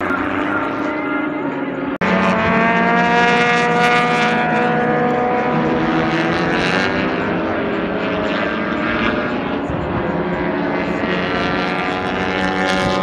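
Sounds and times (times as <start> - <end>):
racing car engine passing: 0.0 - 13.0.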